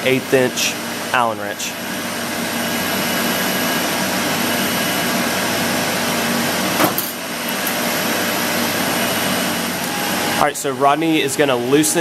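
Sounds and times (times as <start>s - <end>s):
loud rushing machinery noise: 0.0s - 12.0s.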